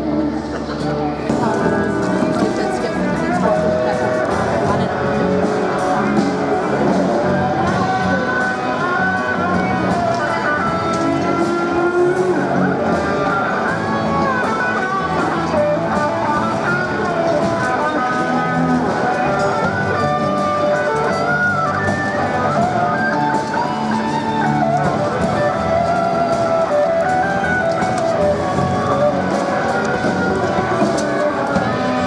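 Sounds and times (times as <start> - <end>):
electric guitar strumming: 0.0 - 32.0
live band playing: 0.0 - 32.0.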